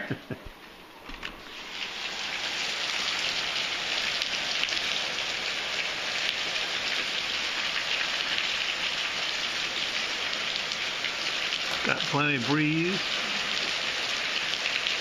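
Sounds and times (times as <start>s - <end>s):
heavy rain on trees and ground: 0.0s - 15.0s.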